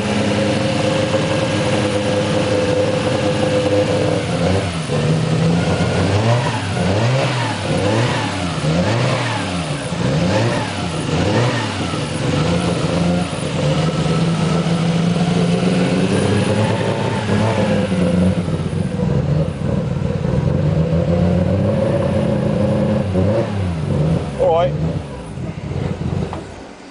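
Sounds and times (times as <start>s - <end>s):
car engine revving and idling: 0.0s - 26.9s.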